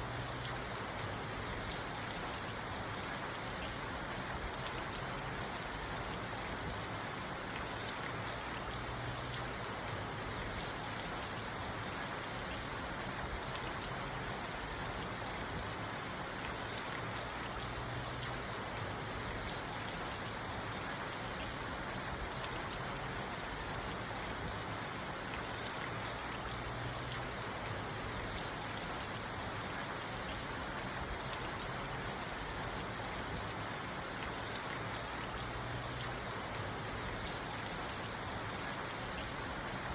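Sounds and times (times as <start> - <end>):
rain on car roof and glass: 0.0 - 39.9.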